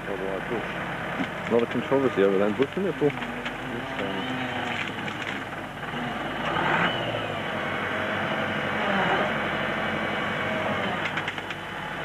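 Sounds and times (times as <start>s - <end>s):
diesel engine working under load: 0.0s - 12.0s.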